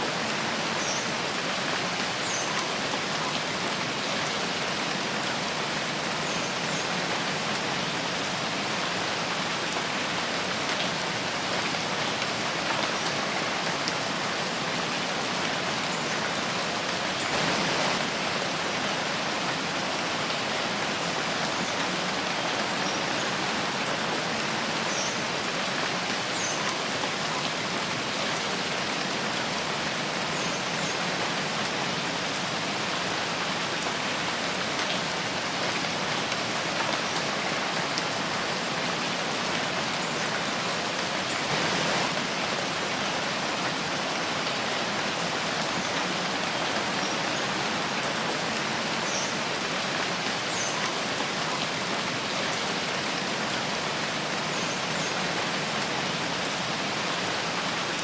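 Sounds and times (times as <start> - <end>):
rain on leaves and ground: 0.0 - 58.0.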